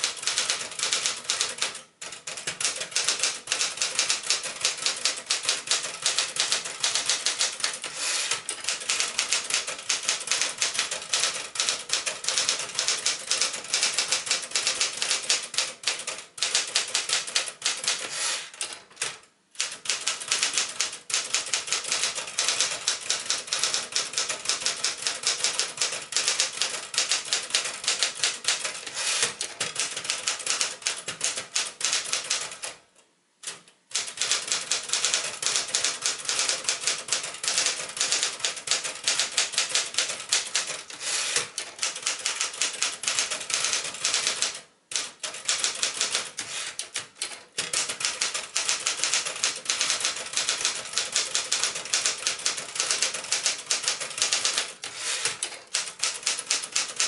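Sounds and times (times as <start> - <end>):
manual typewriter typing: 0.0 - 32.8, 33.4 - 57.0.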